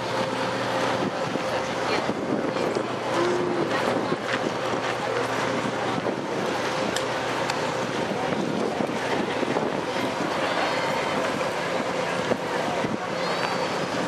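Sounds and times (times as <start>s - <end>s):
wind on microphone: 0.9s - 6.9s, 7.8s - 14.0s.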